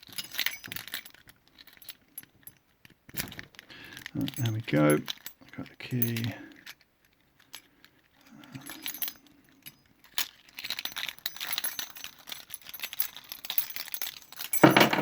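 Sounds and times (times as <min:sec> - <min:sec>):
keys jangling and clicking: 0:00.0 - 0:15.0.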